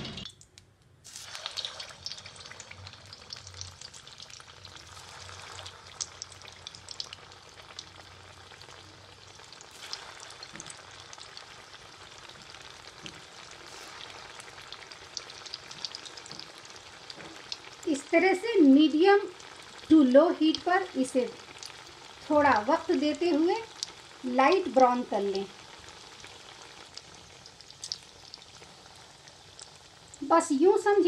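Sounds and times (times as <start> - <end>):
food deep-frying in oil: 0.0 - 31.0.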